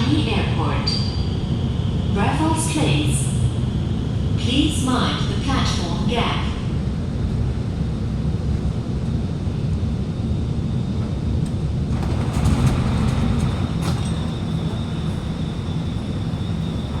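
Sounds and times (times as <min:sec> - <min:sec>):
train carriage low rumble: 0:00.0 - 0:17.0.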